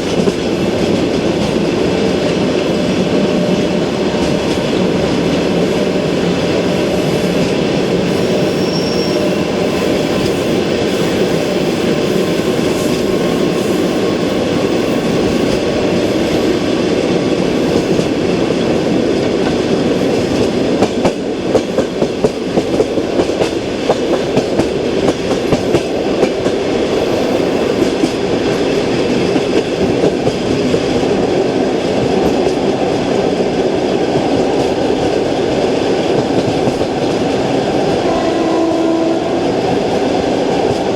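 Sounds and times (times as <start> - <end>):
train rumble inside carriage: 0.0 - 40.9.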